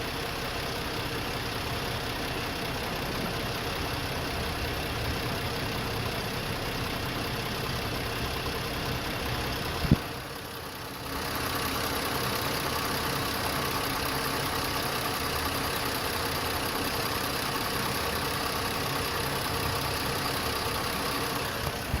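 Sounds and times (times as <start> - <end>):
car engine idling: 0.0 - 22.0
fast even engine ticking: 0.1 - 22.0.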